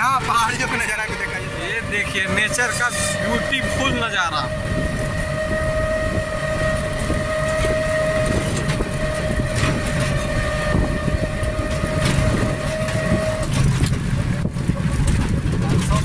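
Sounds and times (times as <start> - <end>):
steady high whine: 0.0 - 14.9
vehicle rumble on rough road: 0.0 - 16.0.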